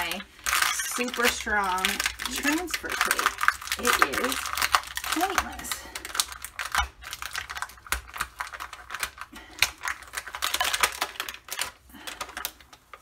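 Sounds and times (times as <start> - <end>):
tape peeling and crinkling: 0.1 - 13.0.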